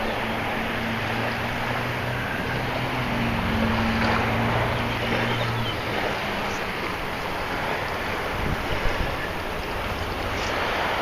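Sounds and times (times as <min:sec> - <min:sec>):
surf on beach: 0:00.0 - 0:11.0
wind buffeting microphone: 0:00.0 - 0:11.0.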